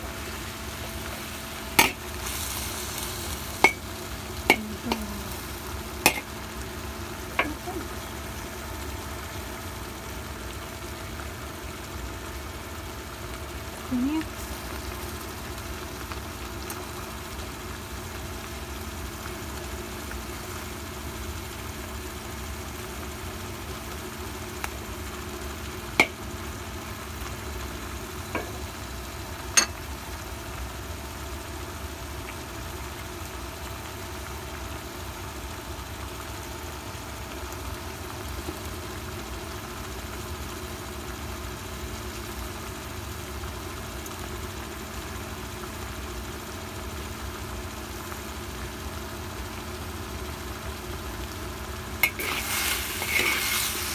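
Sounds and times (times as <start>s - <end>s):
steady mechanical hum: 0.0s - 53.9s.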